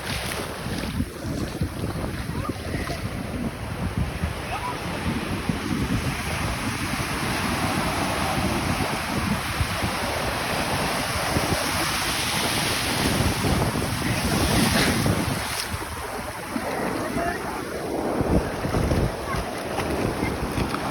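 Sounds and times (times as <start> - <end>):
wind blowing across microphone: 0.0 - 20.9.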